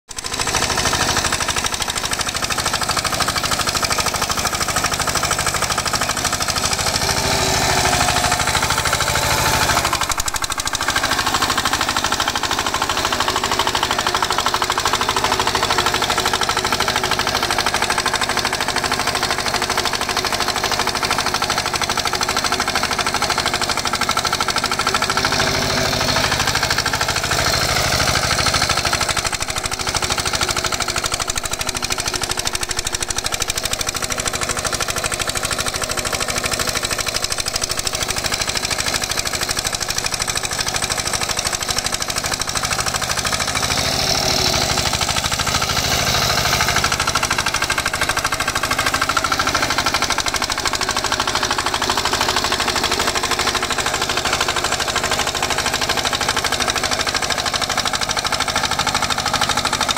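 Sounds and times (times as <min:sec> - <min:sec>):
diesel tiller engine chugging: 0:00.1 - 0:59.9.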